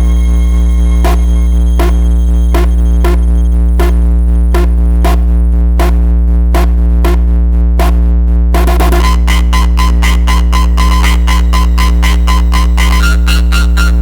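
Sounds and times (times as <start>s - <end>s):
sharp electronic pulses: 0.0s - 7.2s, 8.6s - 14.0s.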